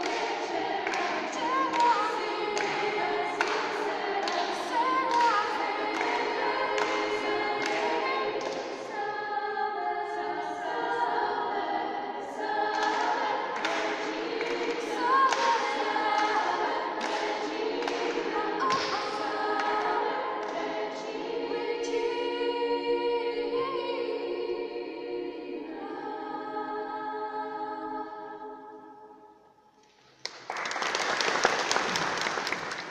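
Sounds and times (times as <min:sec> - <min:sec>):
choir singing in church: 0:00.0 - 0:32.9.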